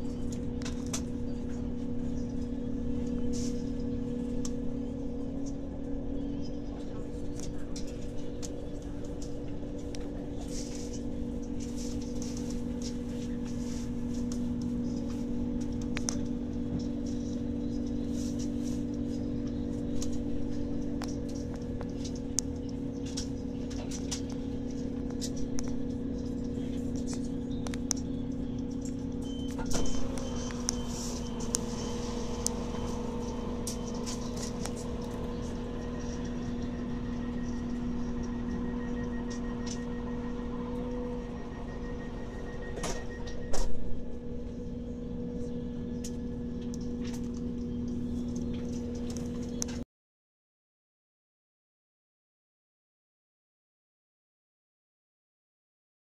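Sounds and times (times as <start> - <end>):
train running drone: 0.0 - 49.8.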